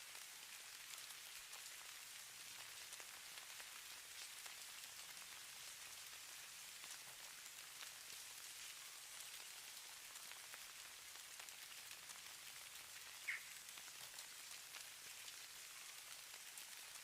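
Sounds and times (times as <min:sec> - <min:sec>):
hiss of falling snow: 0:00.0 - 0:17.0.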